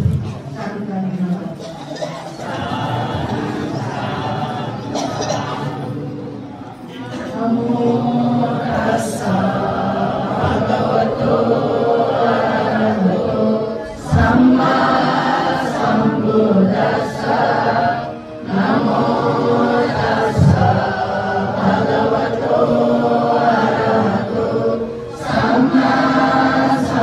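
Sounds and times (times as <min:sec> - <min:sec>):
group chanting in unison: 0:02.0 - 0:27.0.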